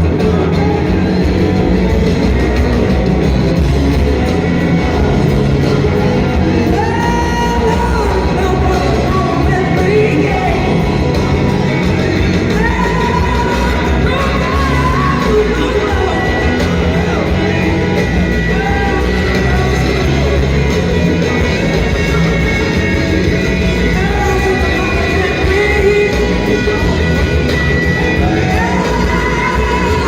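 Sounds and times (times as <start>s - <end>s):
bending lead guitar melody: 0.0s - 30.0s
blues-rock band playing: 0.0s - 30.0s.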